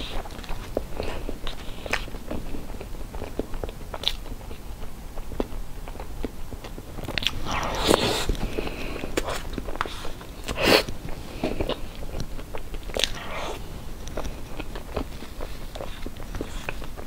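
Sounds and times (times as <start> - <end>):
person chewing cake: 0.0 - 17.0.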